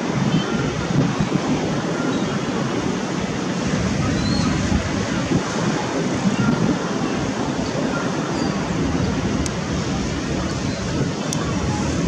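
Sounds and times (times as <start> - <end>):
jet engines rumbling: 0.0 - 12.0
wind on microphone: 0.0 - 12.0.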